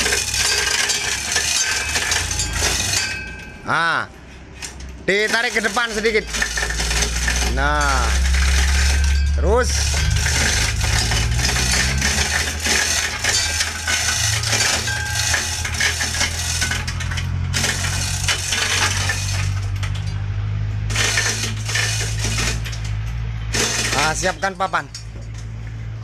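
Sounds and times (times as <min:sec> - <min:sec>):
chain rattling through hoist: 0:00.0 - 0:25.5.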